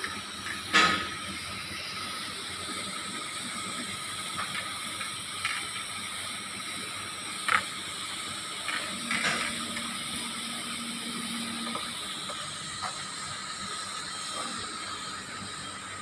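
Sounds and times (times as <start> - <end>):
welding arc hissing: 0.0 - 16.0.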